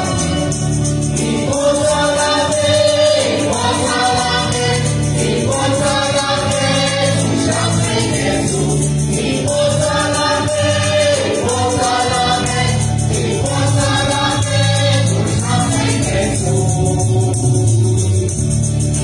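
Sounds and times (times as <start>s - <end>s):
mixed choir singing: 0.0s - 17.8s
acoustic guitar: 0.0s - 19.0s
keyboard: 0.0s - 19.0s.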